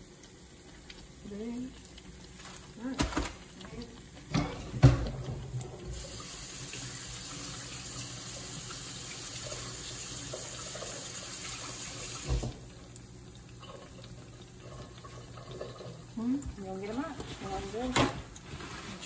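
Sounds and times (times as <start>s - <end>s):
kitchen tap running: 0.0s - 18.6s.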